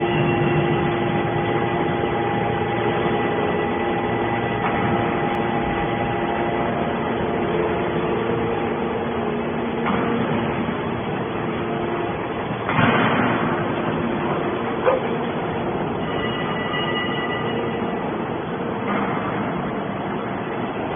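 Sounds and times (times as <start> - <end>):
metal baler humming: 0.0 - 20.9.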